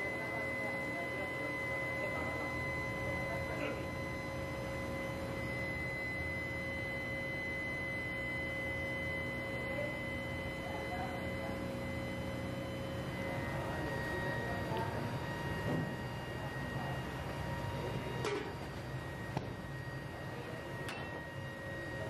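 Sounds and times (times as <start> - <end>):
high-pitched tonal whine: 0.0 - 22.0.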